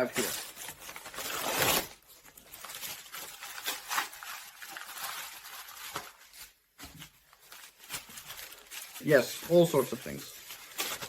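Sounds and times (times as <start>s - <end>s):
packaging ripping: 0.0s - 6.6s, 7.3s - 11.0s
packaging crinkling and rustling: 0.0s - 11.0s.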